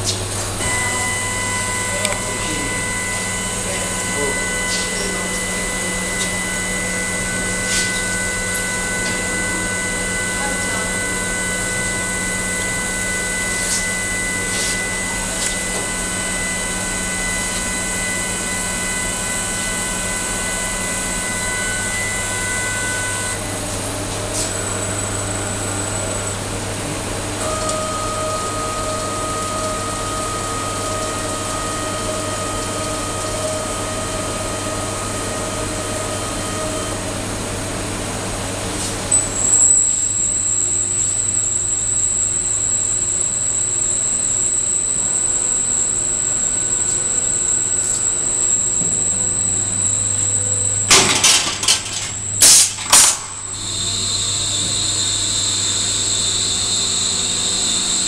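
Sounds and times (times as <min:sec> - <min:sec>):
machine hum: 0:00.0 - 0:58.0
machine whining tones: 0:00.0 - 0:58.0.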